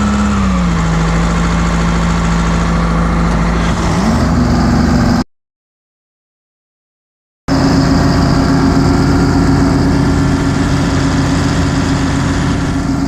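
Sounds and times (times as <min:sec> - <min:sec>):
excavator engine running: 0:00.0 - 0:05.2, 0:07.5 - 0:13.0.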